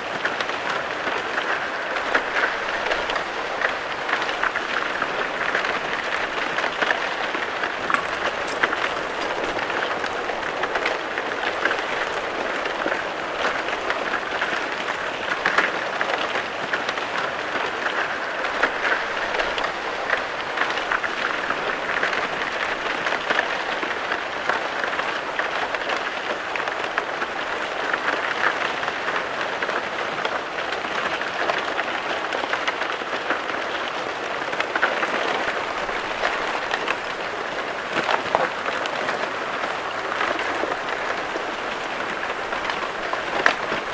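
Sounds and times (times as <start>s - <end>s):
lake ice tinkling and crackling: 0.0s - 43.9s.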